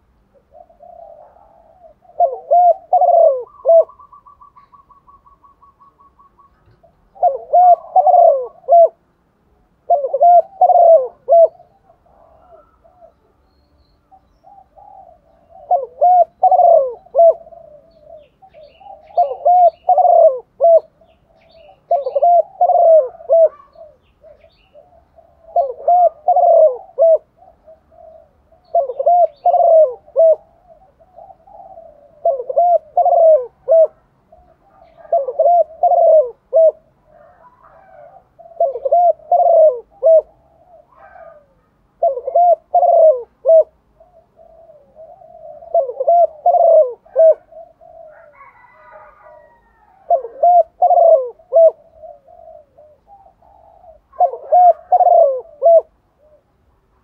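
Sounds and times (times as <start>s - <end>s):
dove cooing: 0.0s - 56.8s.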